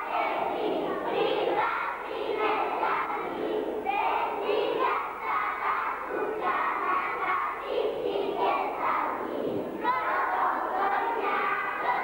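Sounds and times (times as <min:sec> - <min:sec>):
young children's voices: 0:00.0 - 0:12.0.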